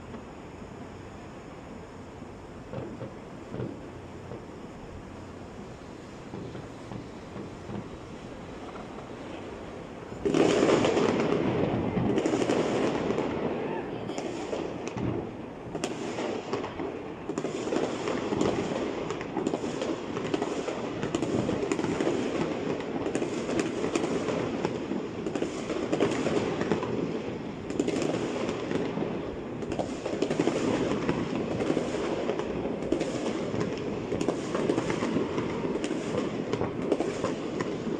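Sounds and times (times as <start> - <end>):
fireworks crackling and popping: 0.0 - 37.9.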